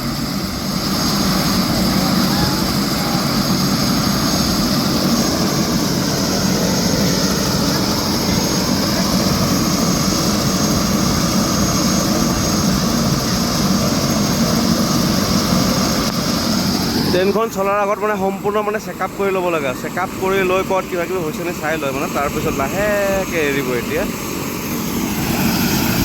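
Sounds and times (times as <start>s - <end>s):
helicopter rotor and engine: 0.0s - 26.0s
high steady whine: 0.0s - 26.0s.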